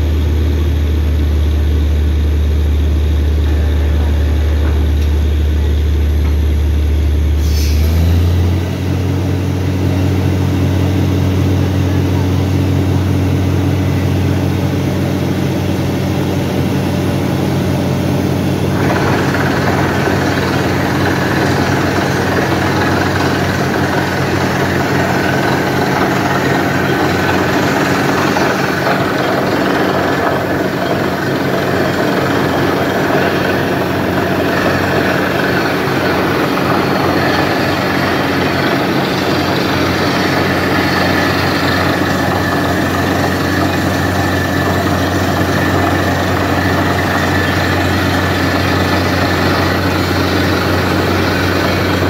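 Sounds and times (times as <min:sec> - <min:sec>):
drilling rig and compressor engine: 0:00.0 - 0:52.0
noisier higher machine layer: 0:00.0 - 0:52.0.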